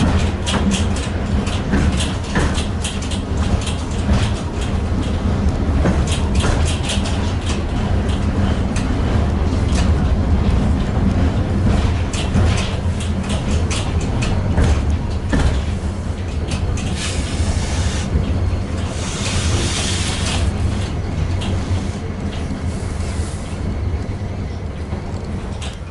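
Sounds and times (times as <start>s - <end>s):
tram clicks and rattles: 0.0s - 25.9s
tram hum: 0.0s - 25.9s.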